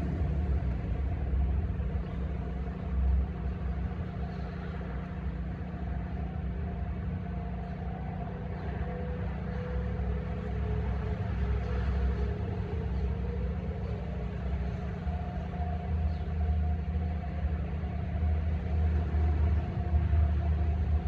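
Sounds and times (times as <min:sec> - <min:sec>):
distant warning sirens: 0:00.0 - 0:21.0
low uneven rumble: 0:00.0 - 0:21.0.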